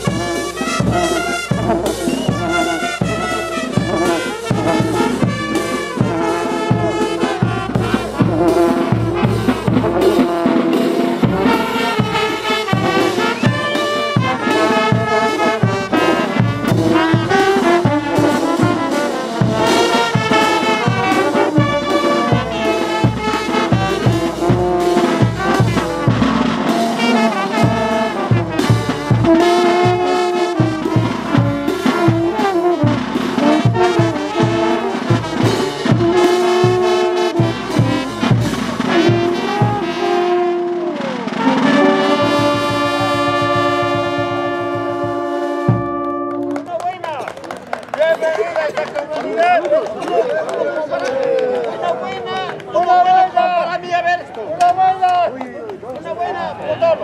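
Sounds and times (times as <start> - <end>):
drums keeping a beat: 0.0 - 50.6
brass band playing dance tune: 0.0 - 57.0.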